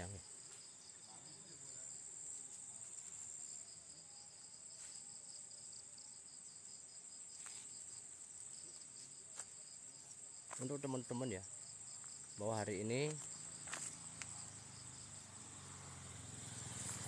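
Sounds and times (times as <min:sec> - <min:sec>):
high-pitched insect whine: 0:00.0 - 0:17.0
pulsing insect trill: 0:00.0 - 0:17.0.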